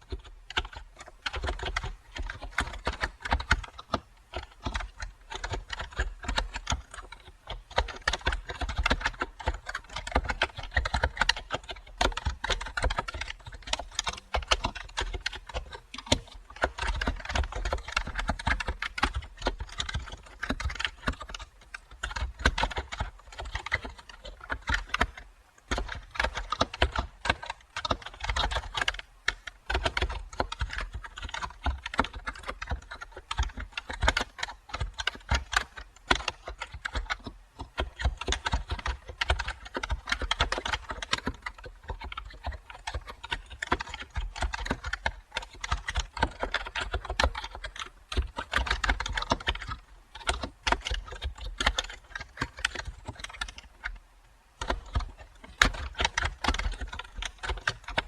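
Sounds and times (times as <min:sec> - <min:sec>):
computer keyboard typing: 0:00.0 - 0:58.0.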